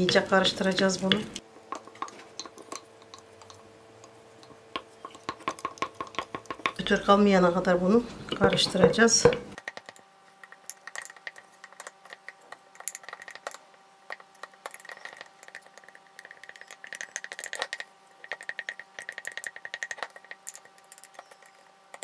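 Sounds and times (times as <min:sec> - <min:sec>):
spoon stirring thick batter: 0:00.0 - 0:22.0.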